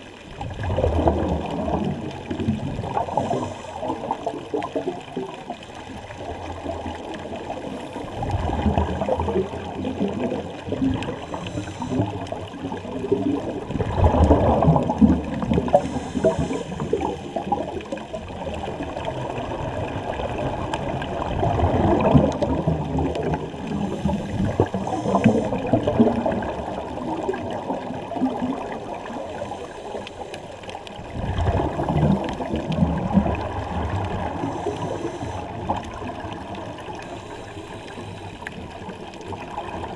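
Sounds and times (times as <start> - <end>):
bubbles gurgling underwater: 0.0 - 39.9
steady underwater rush: 0.0 - 39.9.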